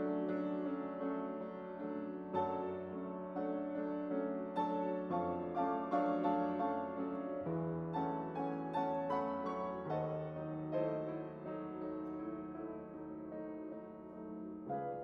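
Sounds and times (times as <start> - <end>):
slow gentle piano: 0.0 - 15.0.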